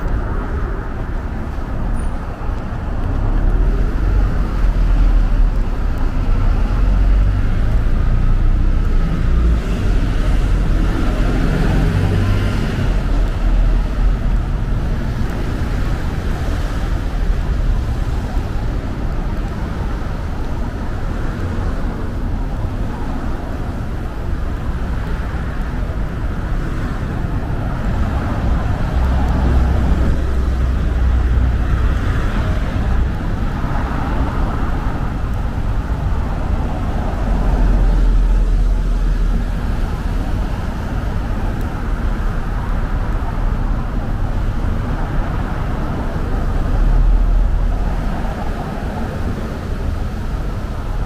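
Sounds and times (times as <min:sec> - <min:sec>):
heavy low vehicle rumble: 0:00.0 - 0:51.0
road traffic rumble: 0:00.0 - 0:51.0.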